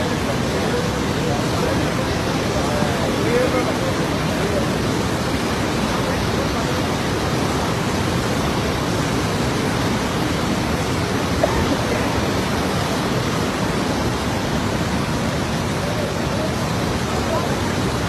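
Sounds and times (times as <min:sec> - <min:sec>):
muddy river rushing in flood: 0:00.0 - 0:18.0.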